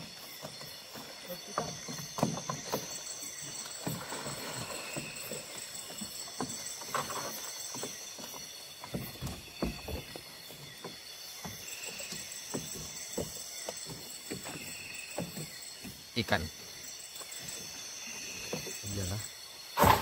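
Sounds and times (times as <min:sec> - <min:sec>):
night insects chirring: 0:00.0 - 0:20.0.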